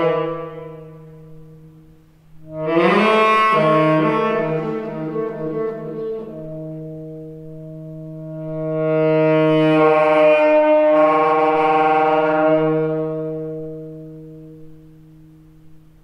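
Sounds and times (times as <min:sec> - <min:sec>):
saxophone long low note: 0:00.0 - 0:16.0.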